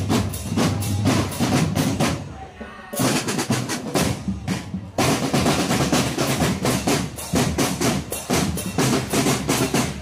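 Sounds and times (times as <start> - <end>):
bass drums: 0.0 - 2.3, 3.0 - 10.0
snare drums: 0.0 - 10.0.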